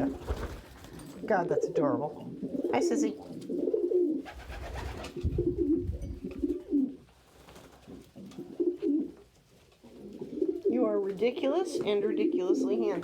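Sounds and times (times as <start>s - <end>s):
pigeons cooing: 0.0s - 7.0s, 7.8s - 9.2s, 9.8s - 13.0s.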